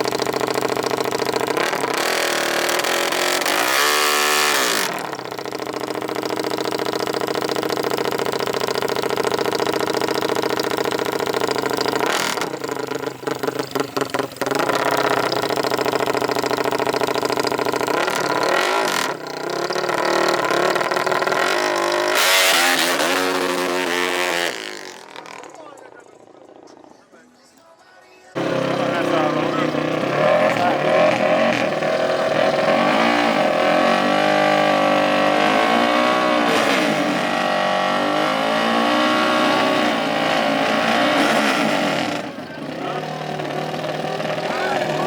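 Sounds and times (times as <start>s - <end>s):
racing engine at high revs: 0.0s - 25.8s, 28.4s - 45.0s.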